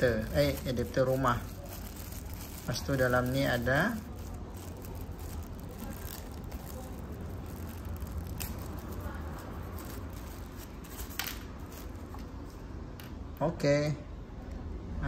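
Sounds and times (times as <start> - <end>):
packaging rustling and scraping: 0.0 - 12.6.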